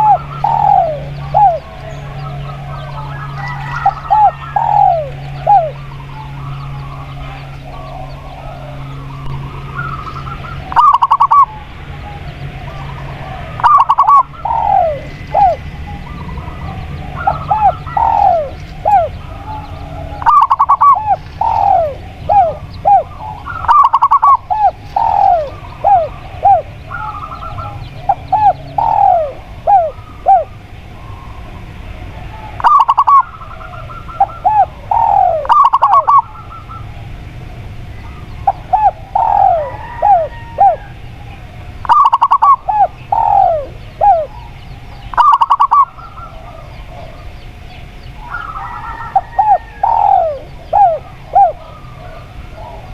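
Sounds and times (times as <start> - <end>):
doves calling: 0.0 - 52.9.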